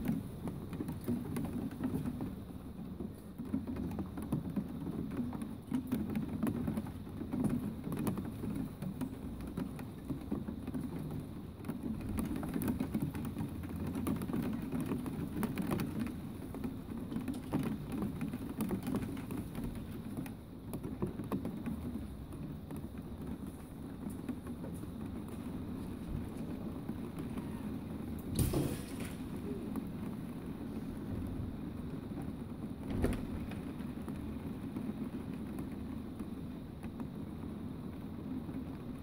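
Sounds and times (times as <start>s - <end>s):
rain drops ticking on hard surface: 0.0s - 39.0s.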